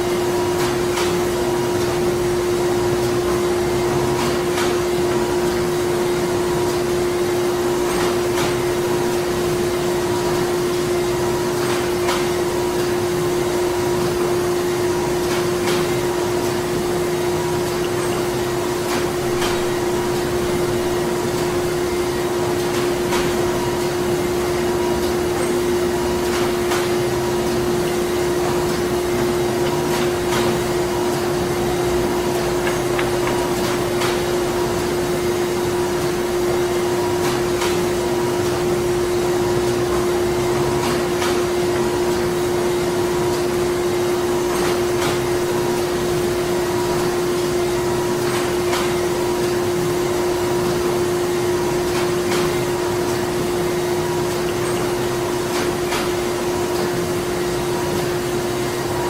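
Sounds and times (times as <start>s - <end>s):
factory machinery humming: 0.0s - 59.0s.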